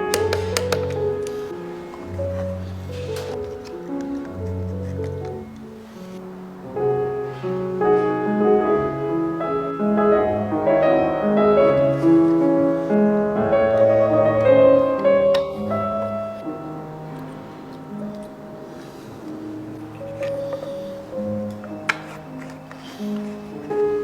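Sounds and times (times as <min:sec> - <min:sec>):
piano melody with chords: 0:00.0 - 0:24.0.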